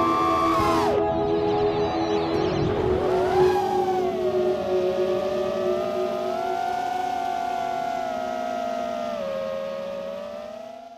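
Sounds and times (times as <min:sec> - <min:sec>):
quadcopter motors whining: 0:00.0 - 0:01.1, 0:02.8 - 0:10.9.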